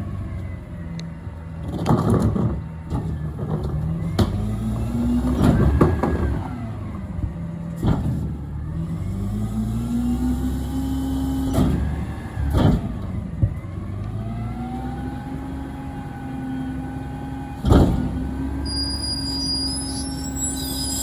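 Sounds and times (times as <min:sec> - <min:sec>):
truck engine revving: 0:01.7 - 0:21.0.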